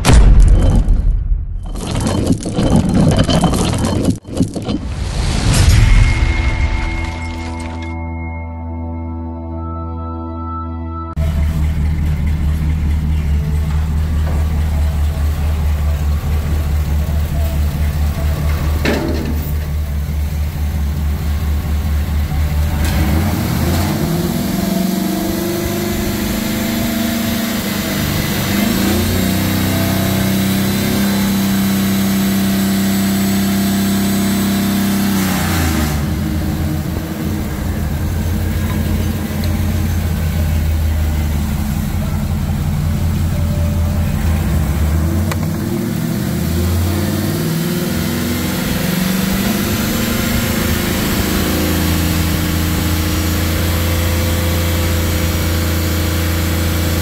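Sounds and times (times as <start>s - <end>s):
engine running: 11.1s - 57.0s.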